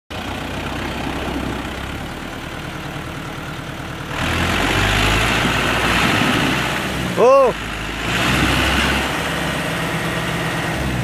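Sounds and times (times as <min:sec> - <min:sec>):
tractor diesel engine running: 0:00.1 - 0:11.0.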